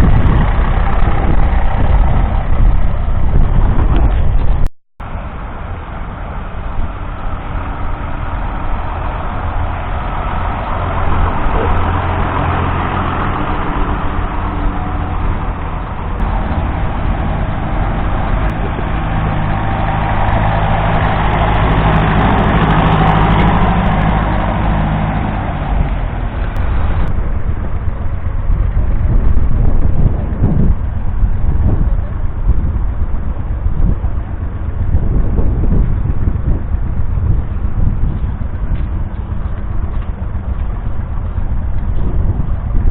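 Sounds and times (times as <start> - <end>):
tractor engine running under load: 0.0 - 42.9.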